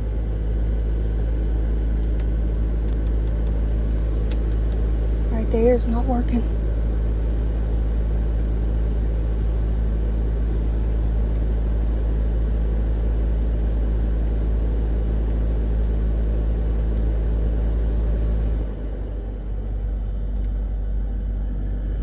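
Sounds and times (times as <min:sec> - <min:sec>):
car engine rumble inside cabin: 0:00.0 - 0:22.0.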